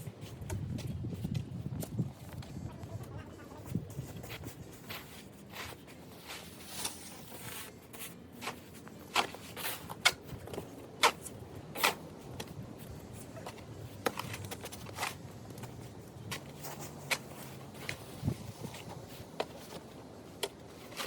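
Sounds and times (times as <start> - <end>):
faint background noise: 0.0 - 21.0.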